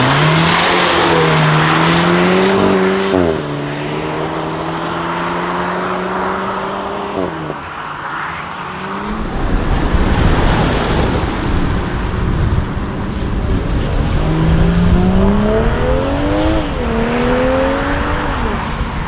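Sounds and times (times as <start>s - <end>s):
loud car exhaust accelerating: 0.0s - 7.7s, 8.6s - 19.0s.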